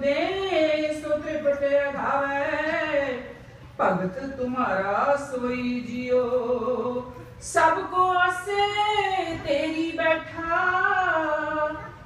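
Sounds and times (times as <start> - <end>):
woman singing a hymn: 0.0 - 12.0.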